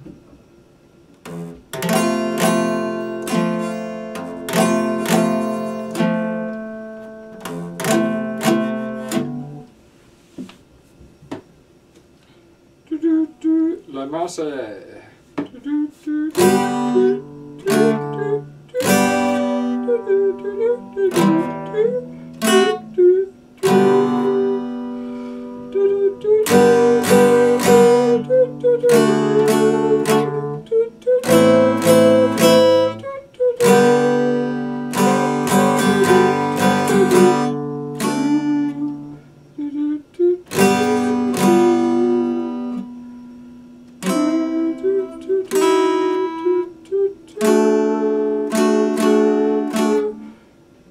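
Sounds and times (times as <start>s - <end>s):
acoustic guitar strumming: 1.2s - 9.7s, 15.4s - 50.4s.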